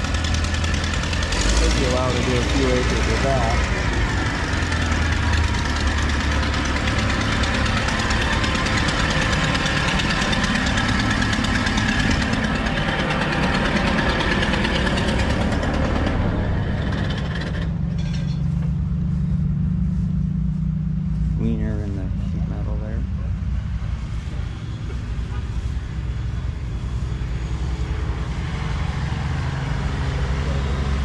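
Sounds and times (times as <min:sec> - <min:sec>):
engine running with knocking pulse: 0:00.0 - 0:31.0.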